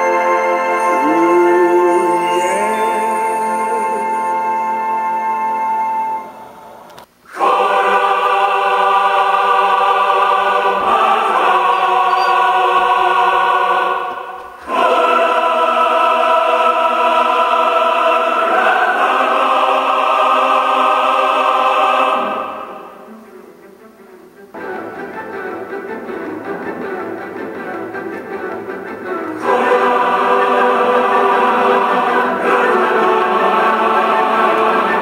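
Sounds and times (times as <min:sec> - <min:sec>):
choir with orchestra: 0:00.0 - 0:35.0.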